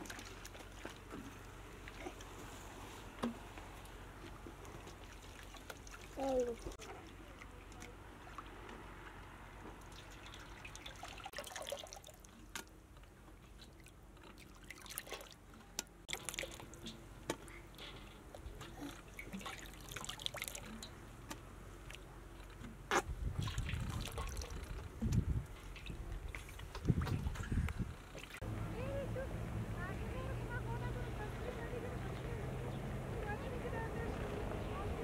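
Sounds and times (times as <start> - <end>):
water sloshing and dripping: 0.0 - 28.4.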